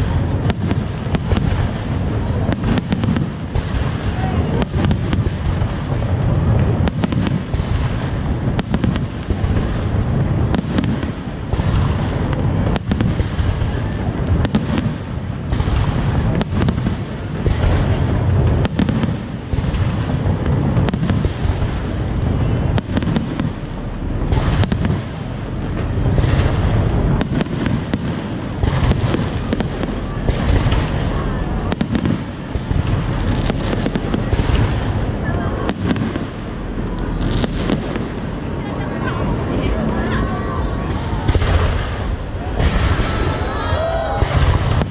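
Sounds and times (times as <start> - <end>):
fireworks bangs: 0.0 - 44.9
fireworks crackling: 0.0 - 44.9
low rumble: 0.0 - 44.9.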